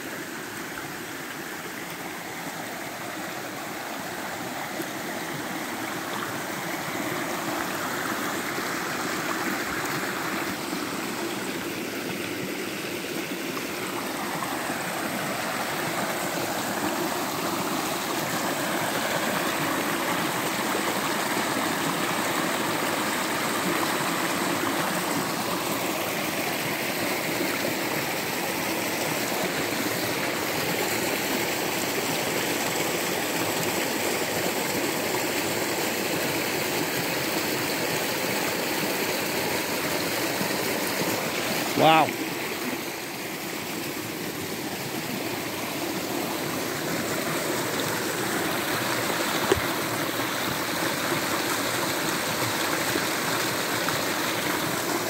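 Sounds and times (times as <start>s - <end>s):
creek rushing over rocks: 0.0s - 55.0s.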